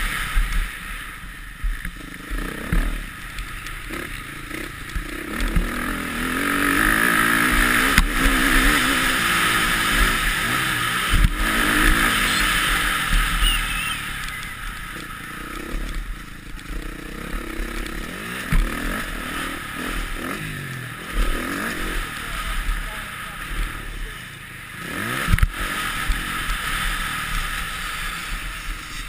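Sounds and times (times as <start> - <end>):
motocross engine revving: 1.8 - 29.0.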